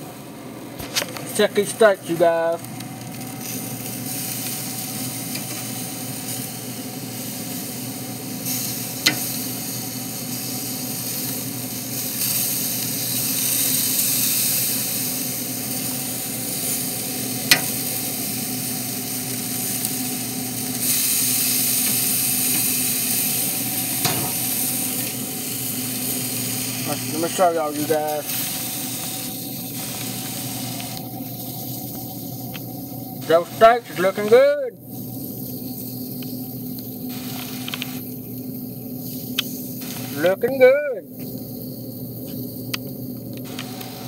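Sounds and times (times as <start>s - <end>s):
steady low hum: 0.0s - 44.0s
steaks sizzling on a grill: 1.2s - 44.0s.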